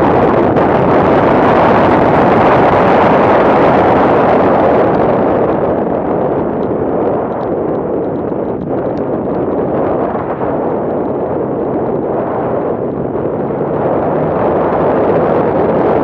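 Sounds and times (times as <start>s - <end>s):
loud wind rush: 0.0s - 16.0s.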